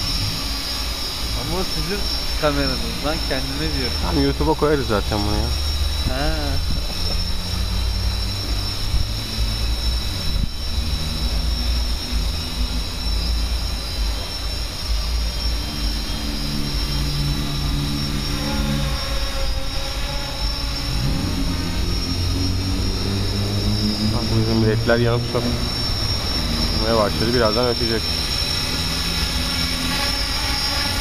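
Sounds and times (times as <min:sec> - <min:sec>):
drone motors whirring: 0:00.0 - 0:31.0.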